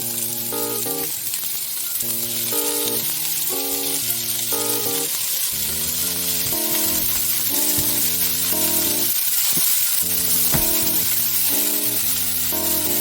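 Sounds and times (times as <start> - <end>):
background music of repeated chords: 0.0 - 13.0
food sizzling in a pan: 0.0 - 13.0.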